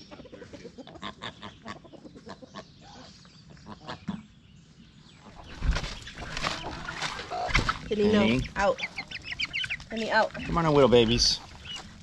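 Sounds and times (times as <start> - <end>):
chickens clucking: 0.0 - 4.4, 5.2 - 12.0.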